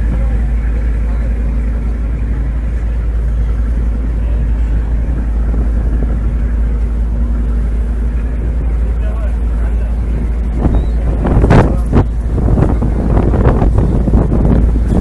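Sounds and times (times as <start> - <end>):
ferry engine rumbling: 0.0 - 15.0
steady engine hum: 0.0 - 15.0.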